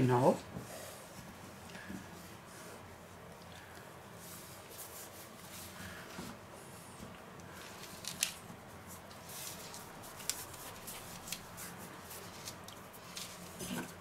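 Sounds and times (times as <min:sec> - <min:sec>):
hands rubbing dough: 0:00.7 - 0:14.0.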